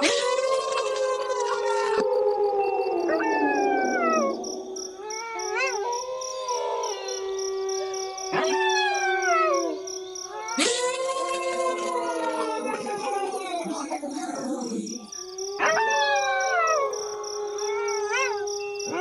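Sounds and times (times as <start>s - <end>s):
wolves howling in chorus: 0.0s - 19.0s.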